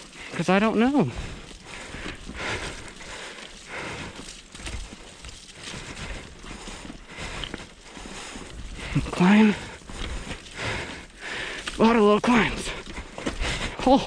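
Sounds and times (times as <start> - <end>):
bike tyres on dirt trail: 0.0 - 14.0.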